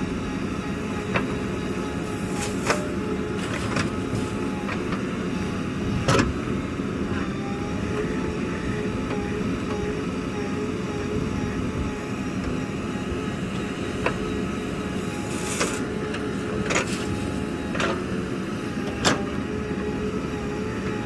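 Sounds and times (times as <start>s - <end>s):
diesel machinery whining: 0.0s - 21.0s.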